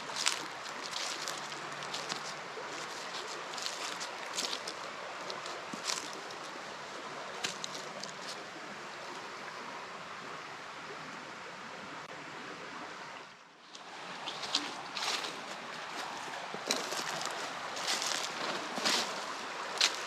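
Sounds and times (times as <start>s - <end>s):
creek water rushing over rapids: 0.0s - 20.0s.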